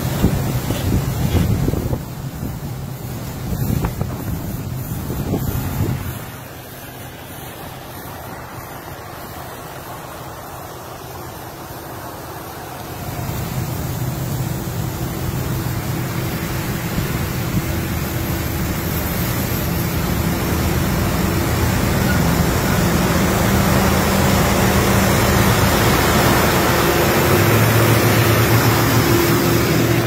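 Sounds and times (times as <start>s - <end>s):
road noise: 0.0s - 30.0s
truck engine drone: 0.0s - 30.0s.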